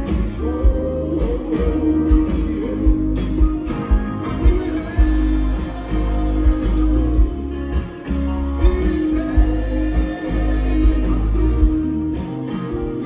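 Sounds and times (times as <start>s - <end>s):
man singing: 0.0s - 12.2s
steady drum beat: 0.0s - 12.9s
electric guitar: 0.0s - 13.0s.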